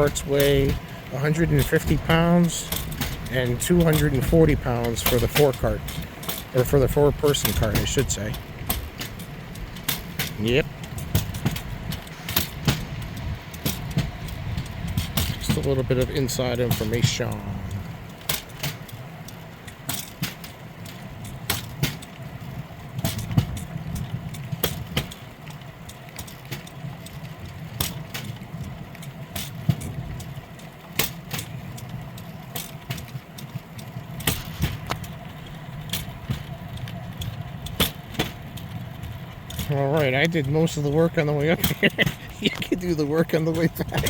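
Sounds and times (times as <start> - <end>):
rail bike rumbling on rails: 0.0 - 44.0.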